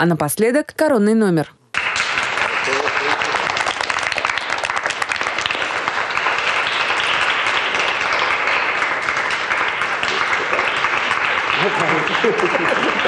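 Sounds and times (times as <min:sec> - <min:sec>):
crowd applauding: 0:01.7 - 0:13.0.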